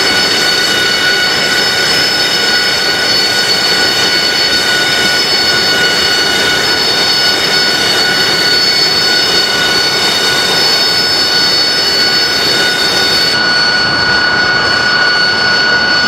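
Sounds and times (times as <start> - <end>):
jet engine running with whine: 0.0 - 16.0.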